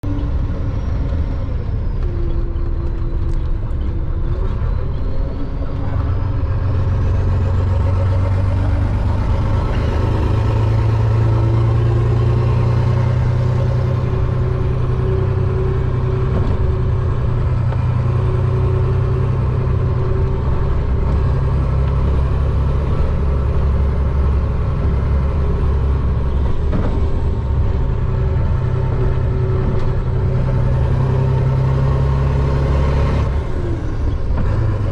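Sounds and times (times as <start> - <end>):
truck diesel engine droning: 0.0 - 34.9.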